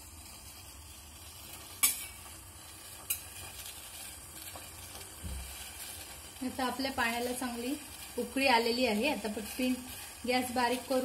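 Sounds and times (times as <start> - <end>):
water boiling hard: 0.0 - 11.0.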